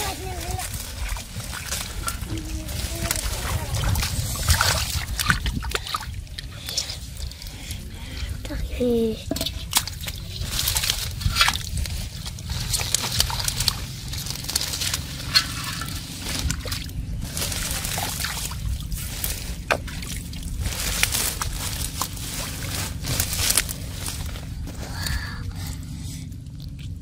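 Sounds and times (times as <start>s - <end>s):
hands squelching through wet mud: 0.0s - 27.0s
steady low rumble: 0.0s - 27.0s.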